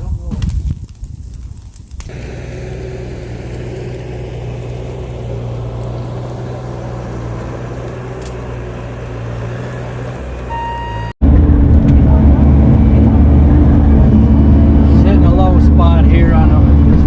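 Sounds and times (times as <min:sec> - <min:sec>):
diesel engine running steadily: 0:02.0 - 0:17.0.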